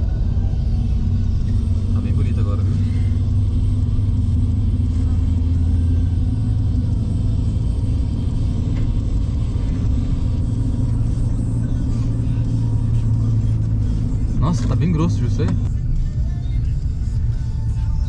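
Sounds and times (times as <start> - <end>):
truck engine and tyre rumble: 0.0 - 18.0.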